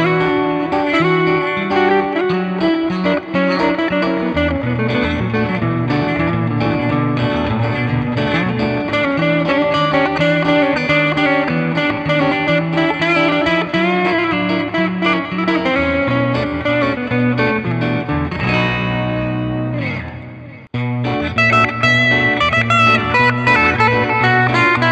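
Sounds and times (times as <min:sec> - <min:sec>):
electric guitar lead line: 0:00.0 - 0:24.9.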